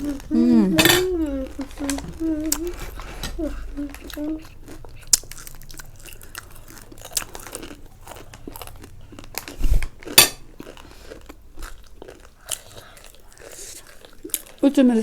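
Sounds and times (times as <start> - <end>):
chips being chewed: 0.0 - 14.7.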